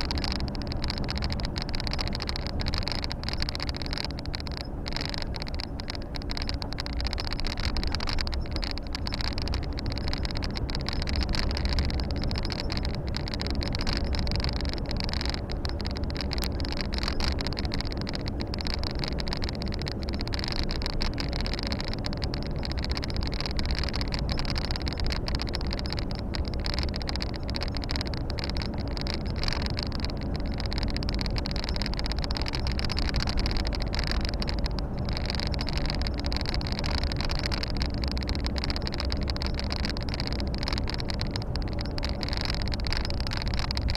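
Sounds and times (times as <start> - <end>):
road and tyre noise: 0.0 - 43.9.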